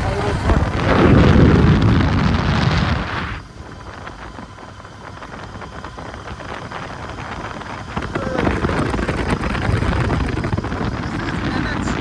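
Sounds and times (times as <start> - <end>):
motorcycle riding noise: 0.0 - 12.0
wind buffeting microphone: 0.0 - 12.0.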